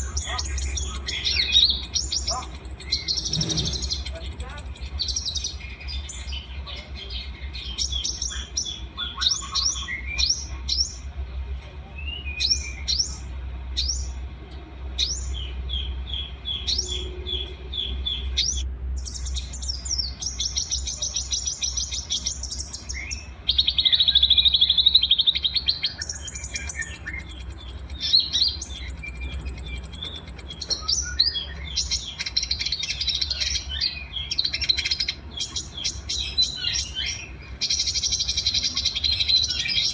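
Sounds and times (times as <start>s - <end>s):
songbirds chirping and trilling: 0.0s - 39.9s
steady low hum: 0.0s - 39.9s.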